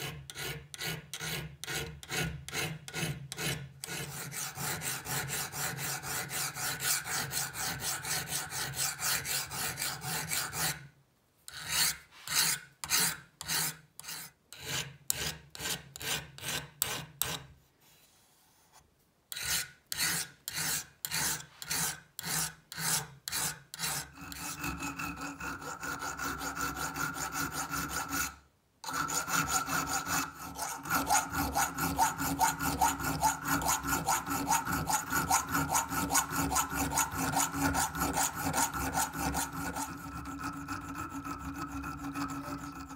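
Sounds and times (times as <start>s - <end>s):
file rasping on steel: 0.0s - 10.9s, 11.5s - 17.5s, 19.3s - 42.9s.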